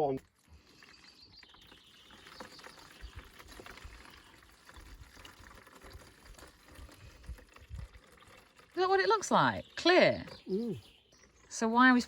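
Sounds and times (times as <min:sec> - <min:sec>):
liquid pouring into container: 0:00.0 - 0:11.5.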